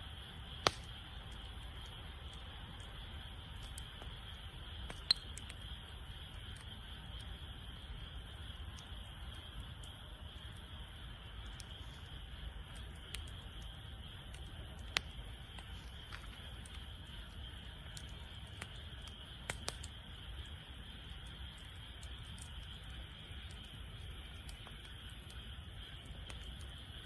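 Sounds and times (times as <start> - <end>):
wood campfire crackling: 0.0 - 27.0.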